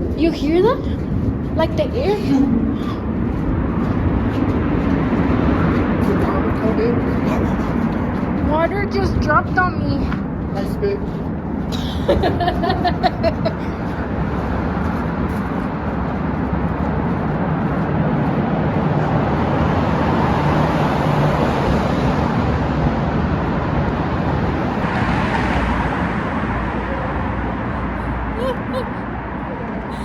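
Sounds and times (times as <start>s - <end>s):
air rushing through tunnel: 0.0s - 30.0s.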